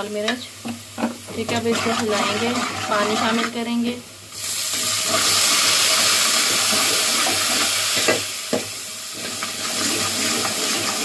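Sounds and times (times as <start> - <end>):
water sizzling in hot oil: 0.0 - 11.0.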